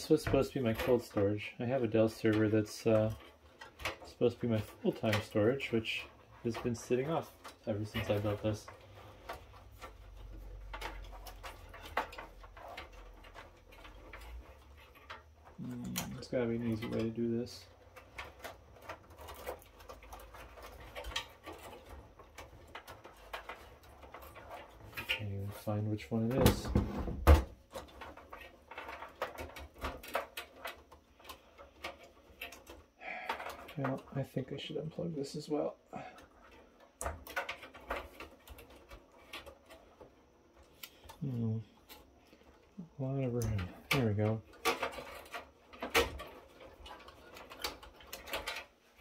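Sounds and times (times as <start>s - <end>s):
wires rustling against metal: 0.0s - 49.0s.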